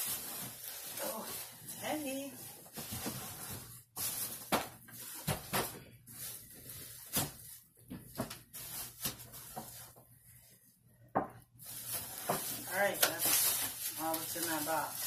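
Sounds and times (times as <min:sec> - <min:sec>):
hands rummaging in a cardboard box: 0:00.0 - 0:10.0, 0:11.6 - 0:15.0.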